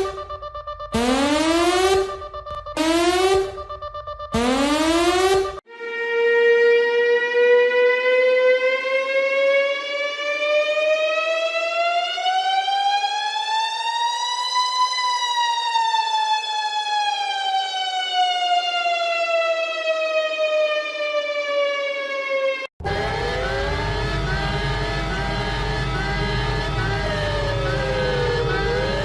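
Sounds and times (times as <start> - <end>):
warning siren wailing: 0.0 - 29.0.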